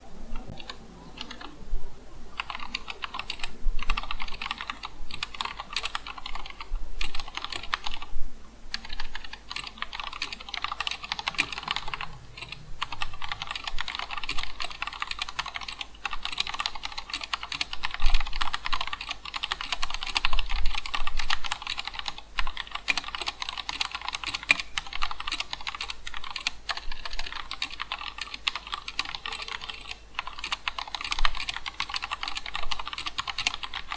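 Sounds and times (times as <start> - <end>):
mechanical keyboard typing: 0.3 - 1.6, 2.4 - 8.1, 8.7 - 33.9.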